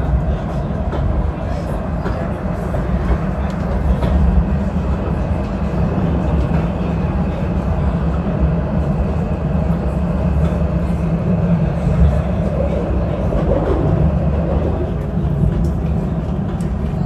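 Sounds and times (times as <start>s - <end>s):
tram rumbling on track: 0.0s - 17.0s.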